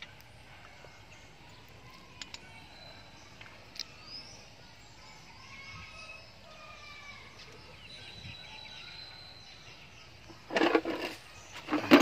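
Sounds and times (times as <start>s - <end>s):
faint bird calls and chirps: 0.0s - 12.0s
low background noise: 0.0s - 12.0s.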